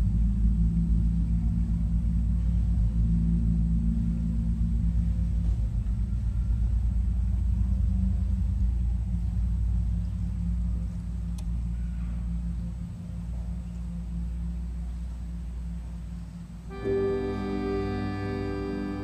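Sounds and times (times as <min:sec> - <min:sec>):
low droning ensemble music: 0:00.0 - 0:19.0.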